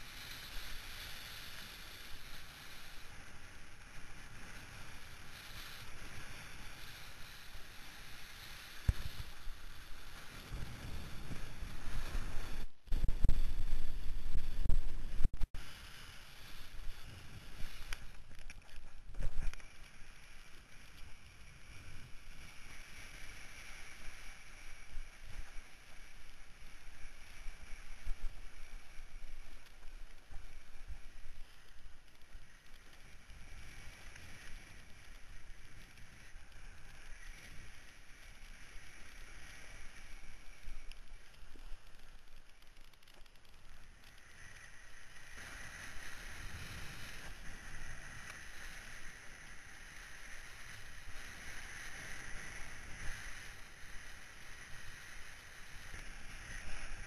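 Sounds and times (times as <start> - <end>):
rush of wind and water: 0.0 - 41.9, 43.9 - 57.0.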